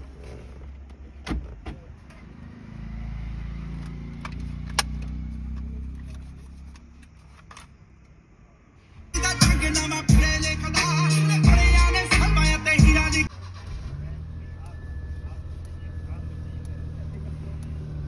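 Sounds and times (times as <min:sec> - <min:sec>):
engine low rumble: 0:00.0 - 0:10.8, 0:11.4 - 0:18.0.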